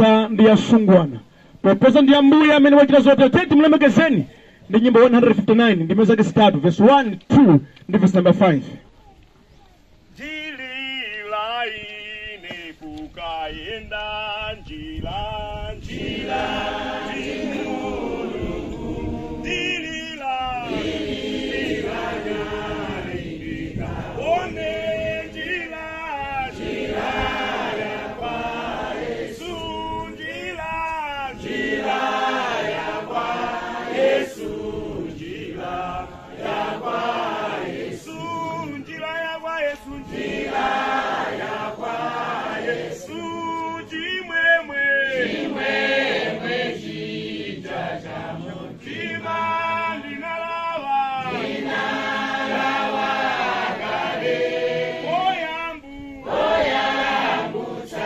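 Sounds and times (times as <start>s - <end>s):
congregation singing a hymn: 10.2s - 58.0s.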